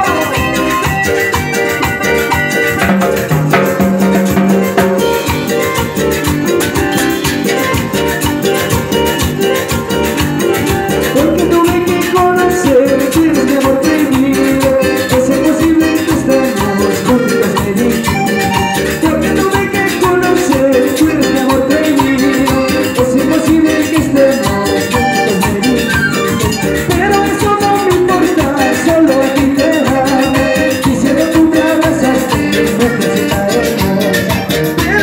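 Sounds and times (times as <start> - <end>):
guitar: 0.0 - 35.0
keyboard: 0.0 - 35.0
live band playing latin dance music: 0.0 - 35.0.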